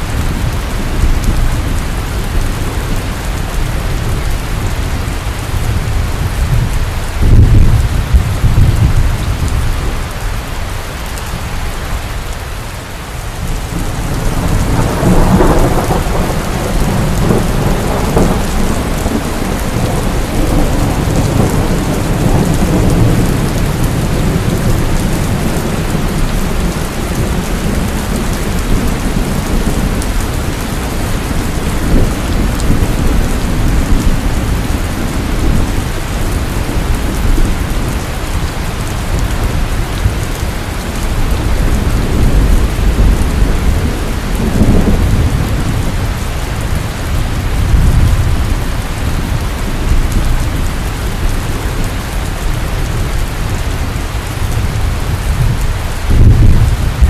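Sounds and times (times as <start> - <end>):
low rolling thunder: 0.0 - 10.3, 13.2 - 57.0
heavy rain pouring: 0.0 - 57.0.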